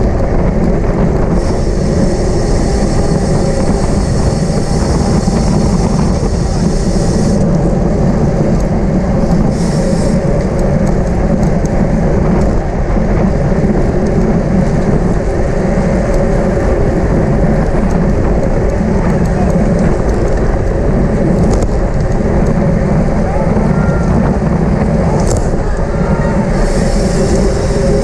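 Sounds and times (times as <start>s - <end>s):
tyre and road noise: 0.0s - 28.0s
wind rushing over microphone: 0.0s - 28.0s.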